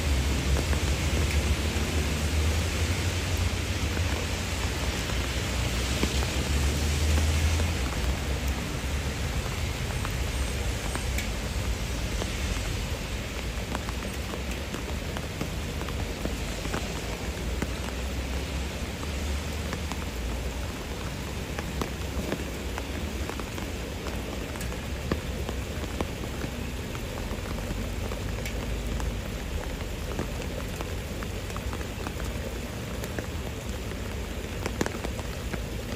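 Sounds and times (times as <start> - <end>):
rain falling on river: 0.0 - 35.9.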